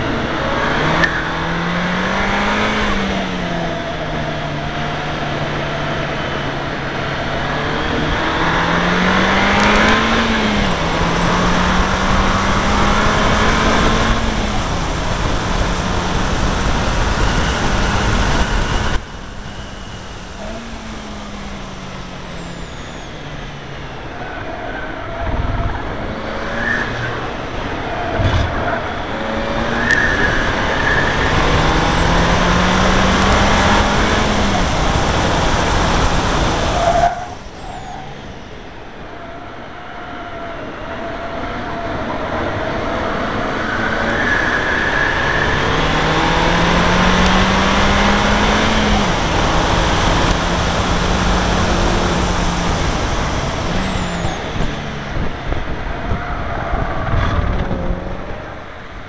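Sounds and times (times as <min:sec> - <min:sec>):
car engine revving hard: 0:00.0 - 0:59.0
wind and road noise: 0:00.0 - 0:59.0.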